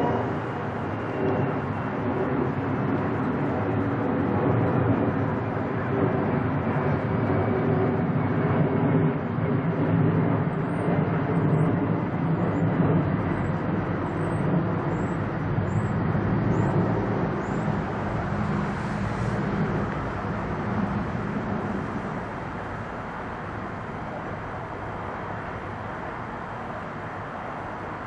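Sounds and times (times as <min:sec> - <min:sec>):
jet airliner climbing rumble: 0:00.0 - 0:28.0.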